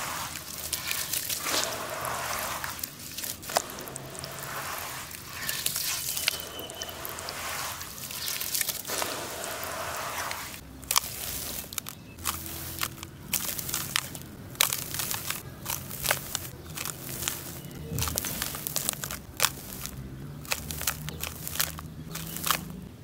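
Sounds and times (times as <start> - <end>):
charcoal crunching and crackling: 0.0 - 23.0
wet paste squished in water: 0.0 - 23.0.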